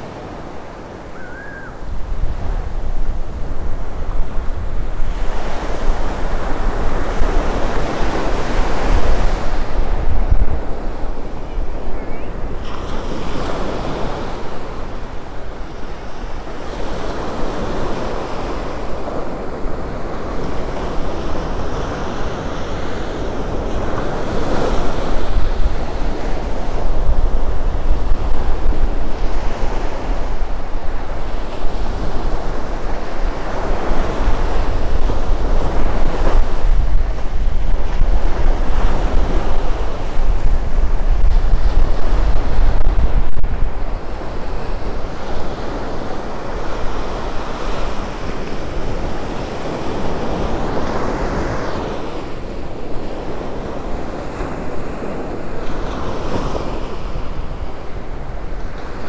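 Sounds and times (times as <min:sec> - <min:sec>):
waves breaking on beach: 0:00.0 - 0:59.0
wind on microphone: 0:00.0 - 0:59.0.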